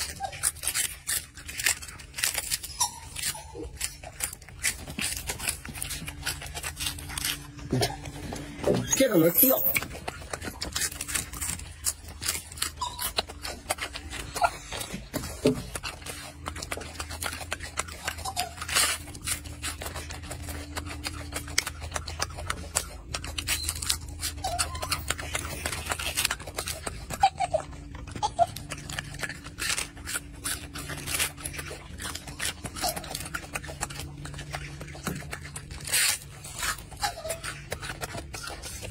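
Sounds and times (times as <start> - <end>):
monkey chewing crisp lettuce: 0.0 - 38.9.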